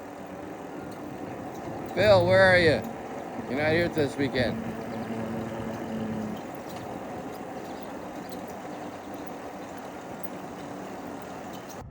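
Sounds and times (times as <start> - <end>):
faint steady hum: 0.0 - 11.9
trike wheels rolling: 0.0 - 11.9.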